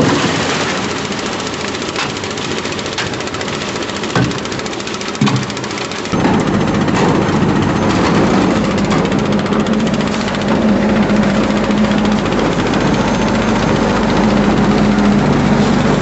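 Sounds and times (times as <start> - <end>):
construction machinery engine humming: 0.0 - 16.0
machinery rattling: 0.0 - 16.0.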